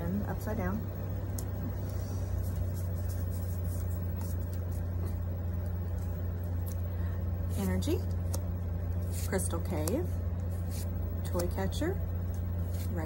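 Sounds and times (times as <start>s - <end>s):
steady low hum: 0.0s - 13.0s
trading cards being shuffled: 1.8s - 6.9s, 7.5s - 13.0s.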